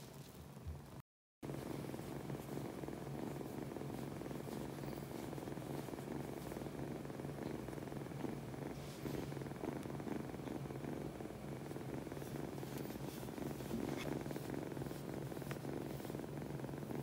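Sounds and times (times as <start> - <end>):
kitten purring: 0.8 - 17.0.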